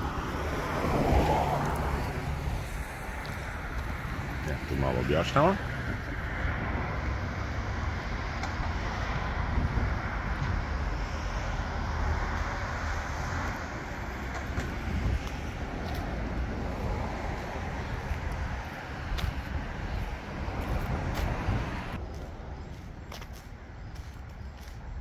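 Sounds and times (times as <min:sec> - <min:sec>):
deep urban rumble: 0:00.0 - 0:25.0.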